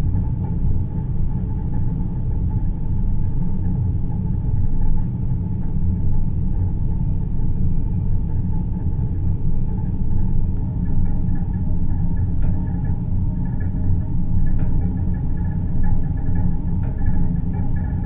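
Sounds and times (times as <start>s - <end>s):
deep low rumble: 0.0s - 18.0s
faint hum: 0.0s - 18.0s.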